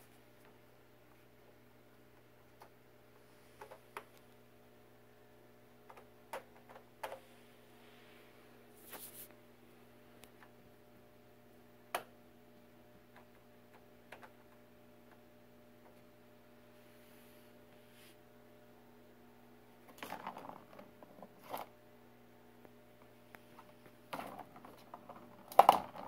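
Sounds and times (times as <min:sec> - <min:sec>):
low mains hum: 0:00.0 - 0:26.0.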